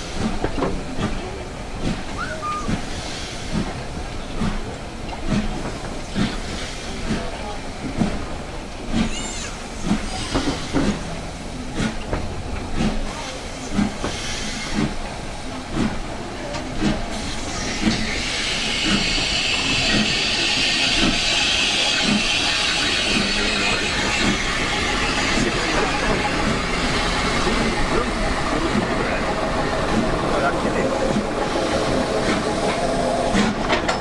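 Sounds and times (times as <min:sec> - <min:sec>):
steam hissing: 0:00.0 - 0:34.0
steam train regular beat: 0:00.0 - 0:34.0.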